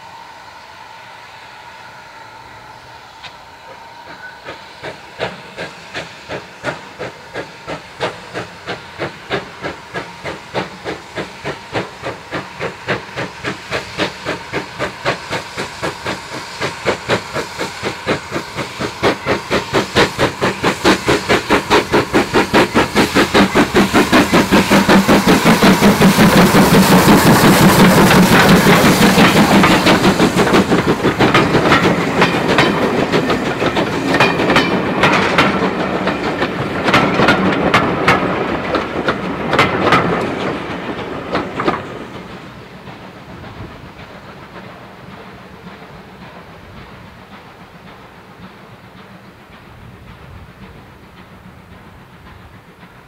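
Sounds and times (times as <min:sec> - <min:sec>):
steam locomotive chuffing: 0:00.0 - 0:53.0.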